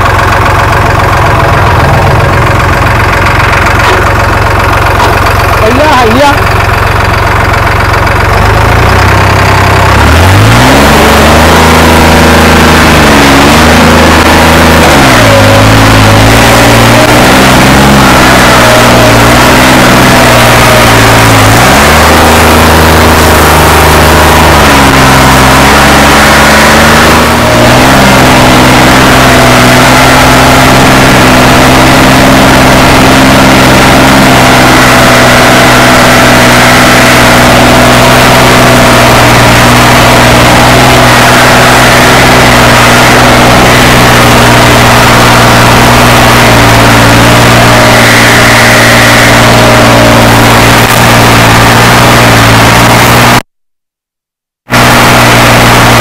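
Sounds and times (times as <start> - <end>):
tractor diesel engine running: 0.0 - 53.5, 54.7 - 56.0.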